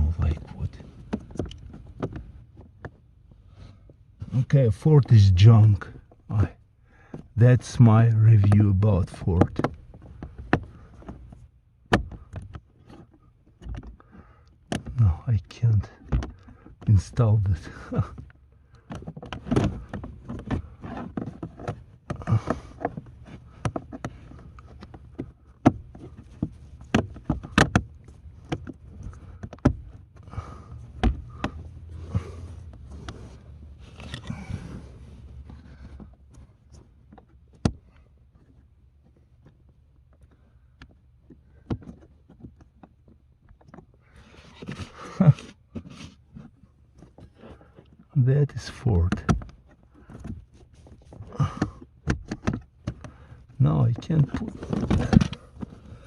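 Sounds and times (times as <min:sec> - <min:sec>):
plastic scraping and knocking: 0:00.0 - 0:03.1, 0:08.1 - 0:56.0.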